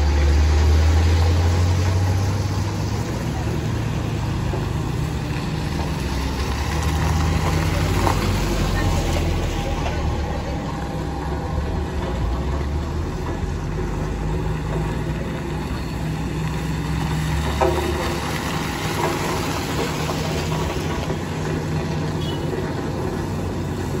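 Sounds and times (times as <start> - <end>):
car engine passing slowly: 0.0 - 24.0
motorcycles passing slowly: 0.0 - 24.0.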